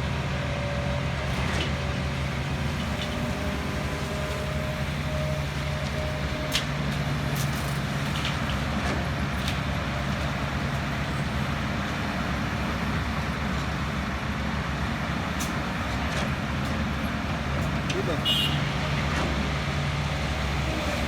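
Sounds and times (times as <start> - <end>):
diesel machinery humming: 0.0 - 21.0.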